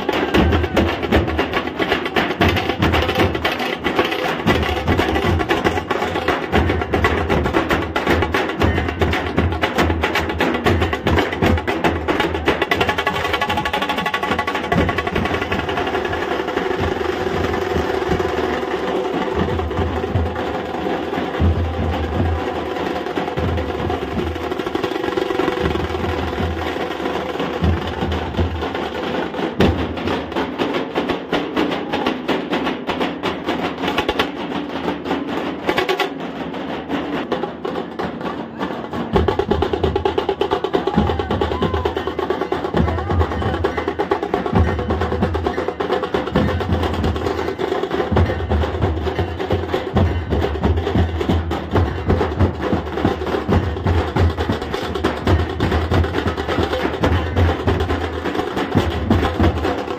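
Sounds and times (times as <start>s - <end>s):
barrel drums beaten with sticks: 0.0s - 59.9s.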